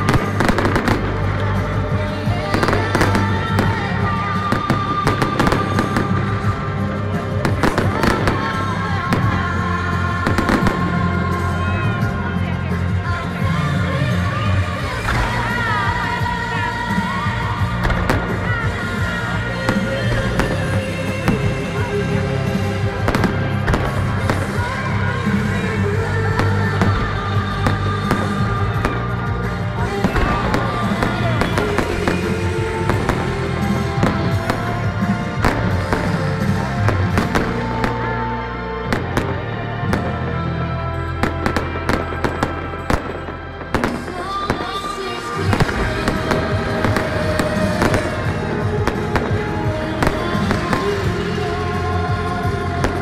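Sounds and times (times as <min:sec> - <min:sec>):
fireworks bangs and crackles: 0:00.0 - 0:53.0
music with long held notes: 0:00.0 - 0:53.0.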